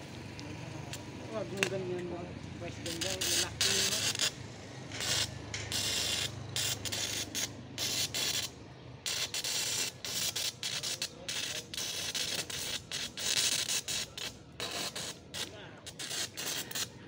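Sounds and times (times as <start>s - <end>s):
welding arc crackling hiss: 2.7s - 17.0s.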